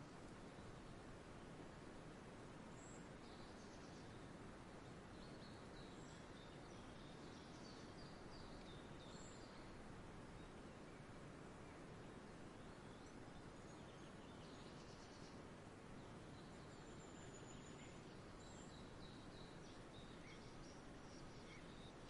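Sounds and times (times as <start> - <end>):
soft background hiss: 0.0 - 22.0.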